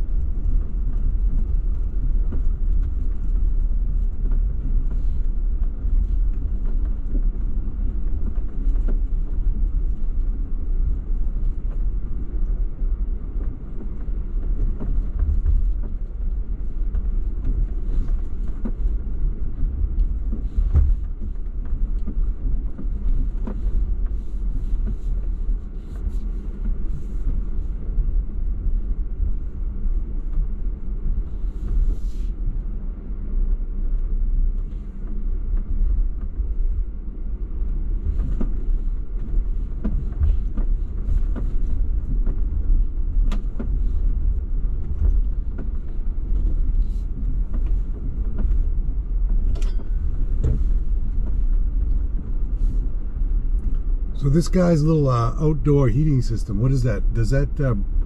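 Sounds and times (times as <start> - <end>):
vehicle engine low rumble: 0.0 - 58.0.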